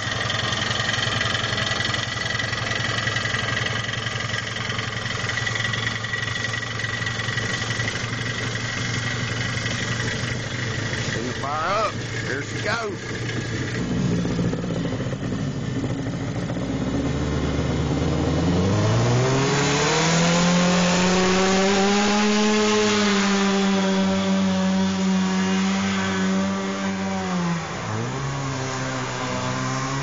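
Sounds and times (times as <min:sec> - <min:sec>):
boat engine revving: 0:00.0 - 0:30.0.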